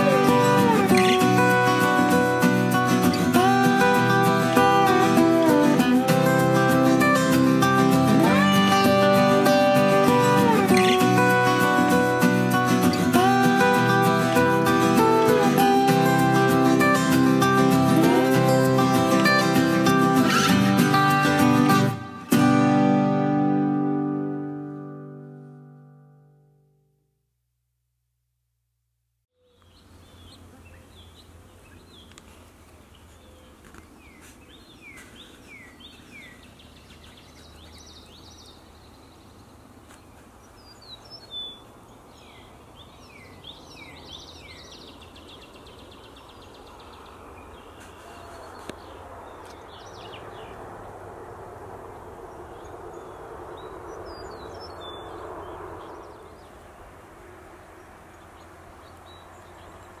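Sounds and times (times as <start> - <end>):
birds chirping: 0.0 - 22.6, 29.4 - 60.0.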